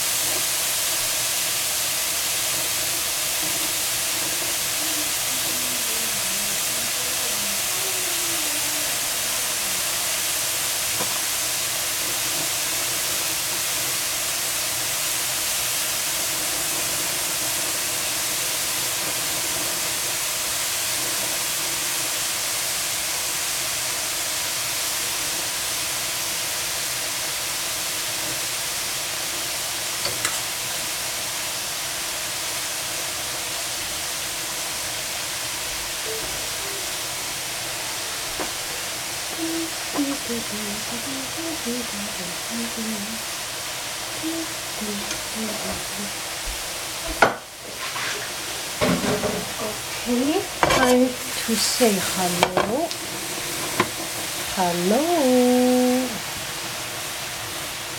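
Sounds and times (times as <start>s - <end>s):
mushrooms sizzling in a pan: 0.0s - 57.9s.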